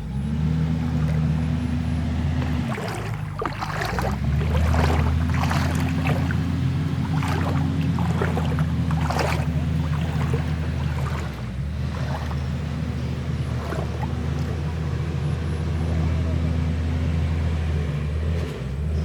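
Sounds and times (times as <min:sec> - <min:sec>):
diesel engine running: 0:00.0 - 0:19.0
water splashing and sloshing: 0:00.0 - 0:19.0.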